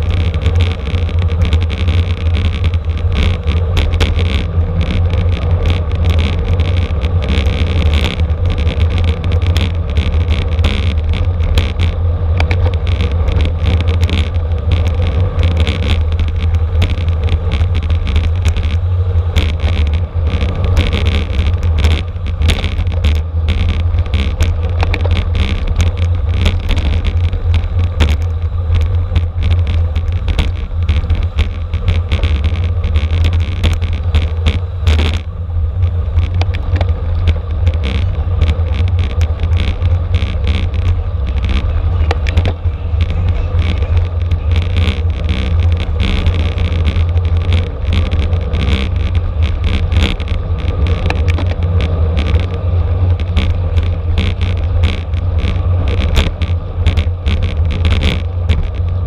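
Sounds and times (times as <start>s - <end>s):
small clicks and rattles: 0.0s - 59.0s
tyre and road noise: 0.0s - 59.0s.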